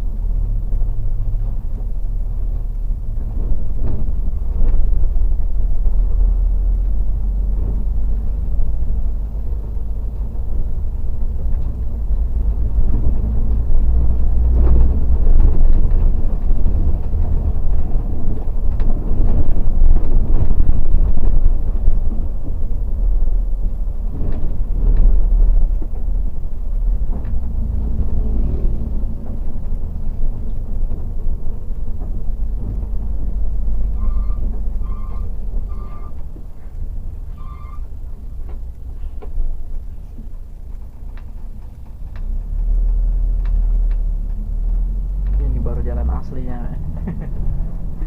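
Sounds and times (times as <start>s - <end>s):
bus engine rumble inside cabin: 0.0s - 48.0s.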